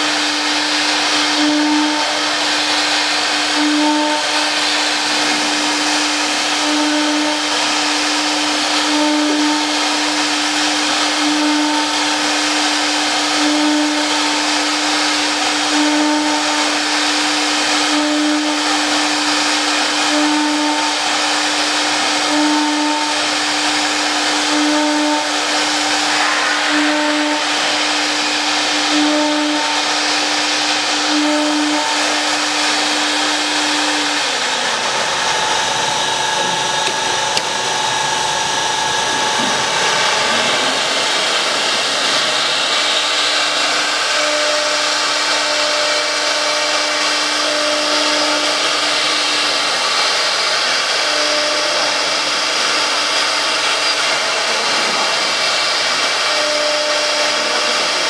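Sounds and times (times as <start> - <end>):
router spindle cutting a board: 0.0 - 58.0.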